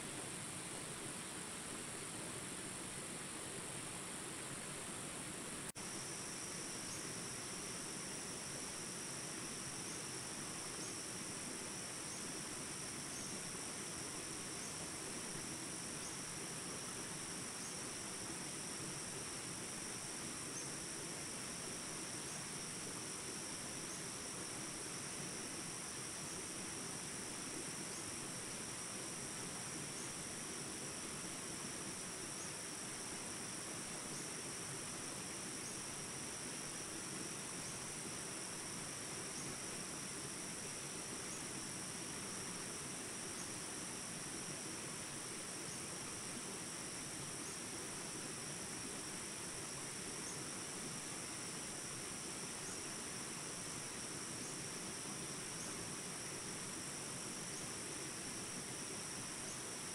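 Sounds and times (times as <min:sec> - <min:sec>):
soft even hiss: 0:00.0 - 0:59.9
insects trilling: 0:05.7 - 0:59.9.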